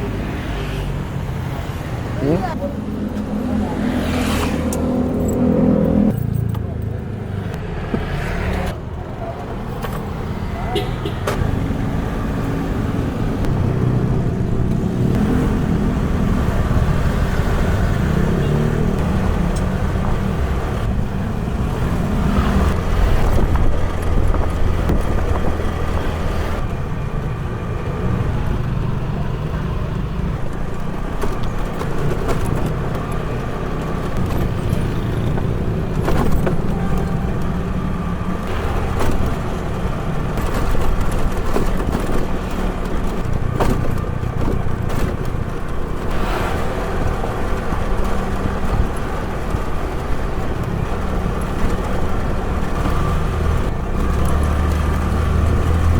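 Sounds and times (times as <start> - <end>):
low rumble of road vehicles: 0.0 - 55.9.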